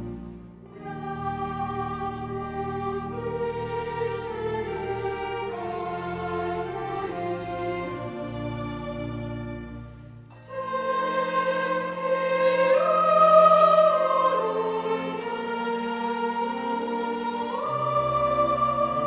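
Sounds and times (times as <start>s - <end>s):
strings playing: 0.0s - 19.0s.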